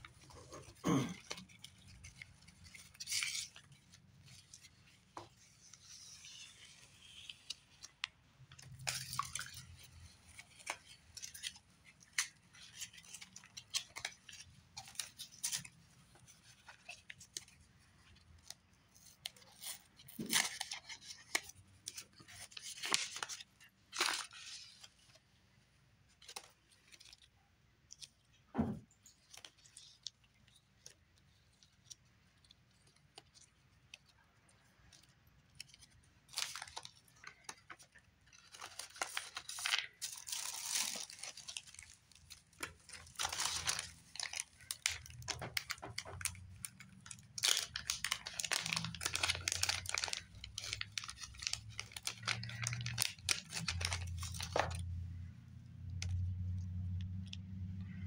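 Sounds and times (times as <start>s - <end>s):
paper and cellophane rustling: 0.0s - 25.3s, 26.0s - 55.1s.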